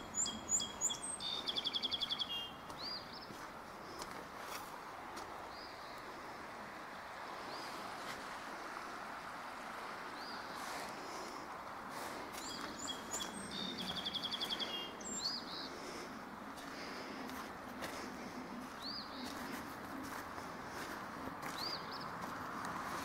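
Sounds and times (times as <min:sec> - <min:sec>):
songbirds chirping: 0:00.0 - 0:09.1, 0:10.0 - 0:23.0.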